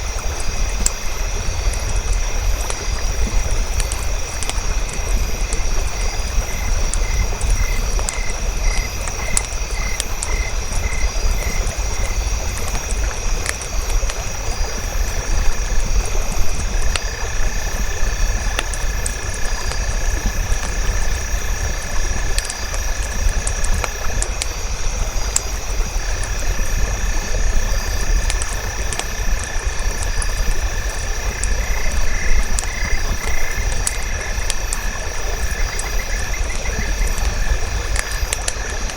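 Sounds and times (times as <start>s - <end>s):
campfire crackling: 0.0s - 38.9s
frogs calling: 0.1s - 38.9s.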